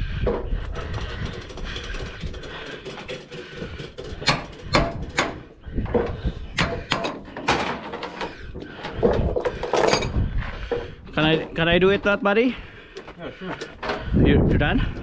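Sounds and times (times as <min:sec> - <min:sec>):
metal chains clanking and rattling: 0:00.8 - 0:12.6, 0:13.6 - 0:14.3.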